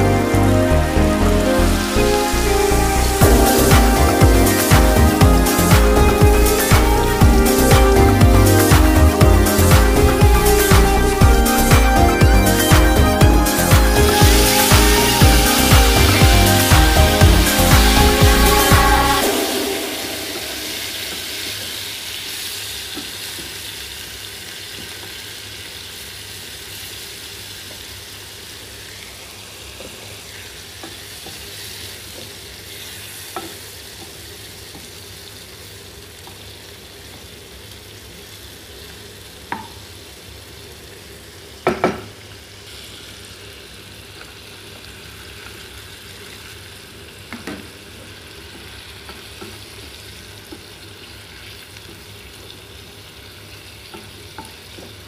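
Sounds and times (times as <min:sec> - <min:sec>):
shrimp sizzling in frying pan: 0:00.0 - 0:55.0.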